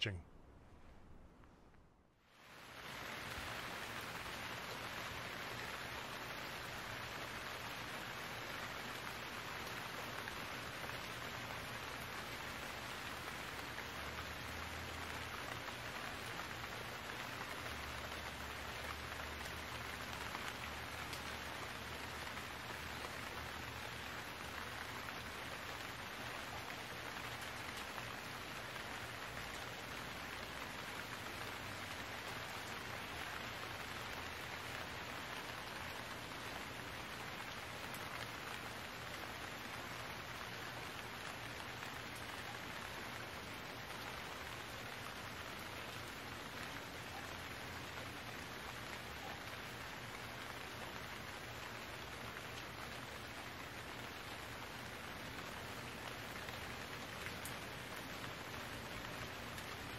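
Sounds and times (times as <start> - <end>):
steady rain falling: 0.0 - 0.2, 1.5 - 59.9.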